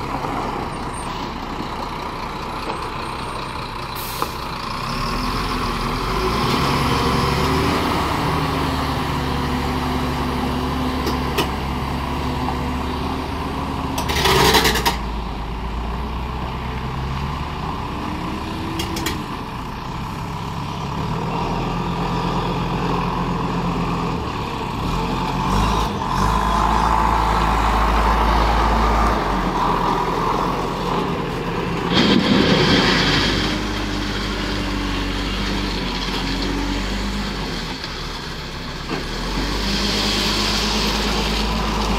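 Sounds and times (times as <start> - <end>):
diesel truck engine accelerating: 0.0 - 41.9.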